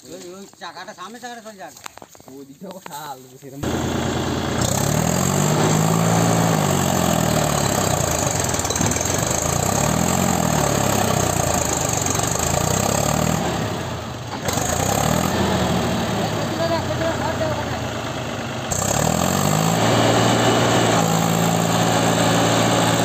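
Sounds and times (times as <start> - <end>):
tractor diesel engine labouring: 3.6 - 23.0.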